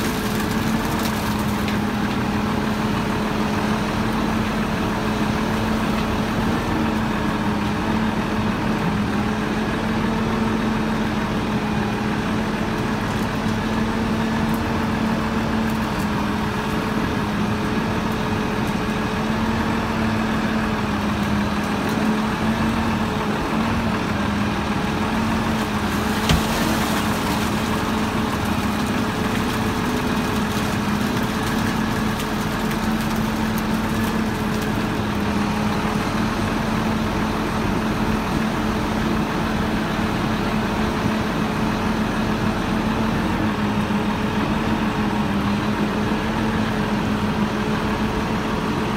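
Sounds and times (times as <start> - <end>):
crane engine humming: 0.0 - 48.9.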